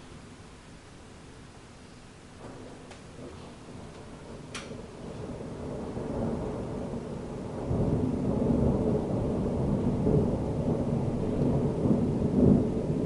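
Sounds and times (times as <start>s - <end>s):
rolling thunder rumble: 2.3s - 13.0s.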